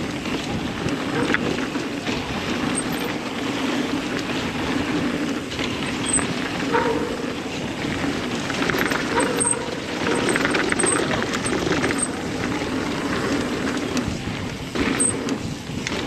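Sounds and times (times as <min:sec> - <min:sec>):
bike rolling on dirt trail: 0:00.0 - 0:16.0.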